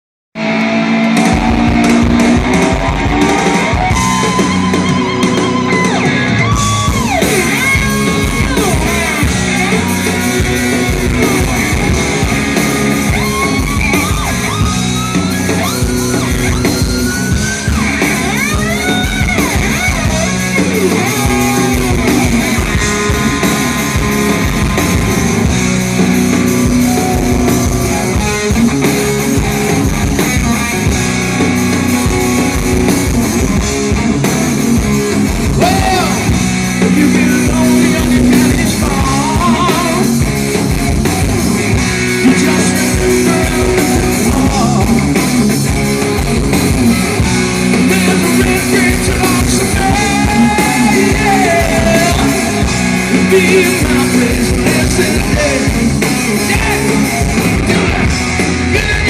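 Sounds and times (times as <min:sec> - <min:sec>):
electric slide guitar: 0:00.4 - 0:59.0
bass and drum beat: 0:01.0 - 0:59.0.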